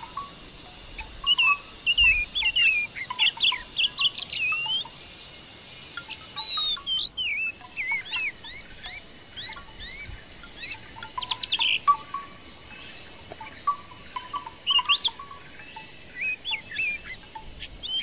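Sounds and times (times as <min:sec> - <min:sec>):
songbirds singing and chirping: 0:00.0 - 0:18.0.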